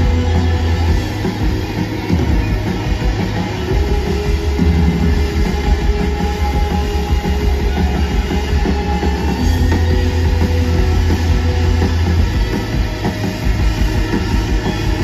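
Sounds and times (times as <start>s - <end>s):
heavy bass line: 0.0s - 15.0s
live electronic rock band: 0.0s - 15.0s.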